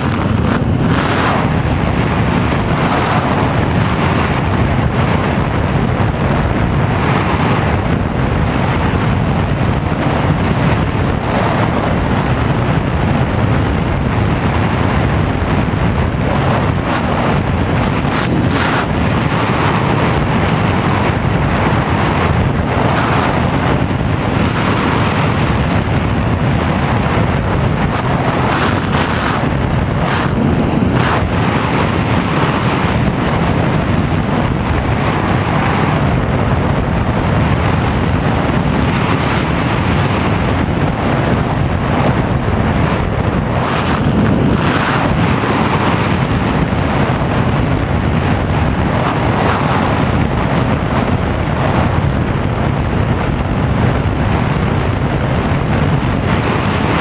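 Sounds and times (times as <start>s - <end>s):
airflow over microphone: 0.0s - 57.0s.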